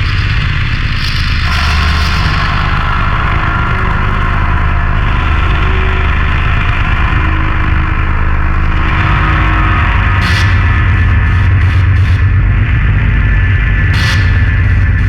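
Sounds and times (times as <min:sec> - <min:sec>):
distorted noise music: 0:00.0 - 0:15.0
heavy low drone: 0:00.0 - 0:15.0.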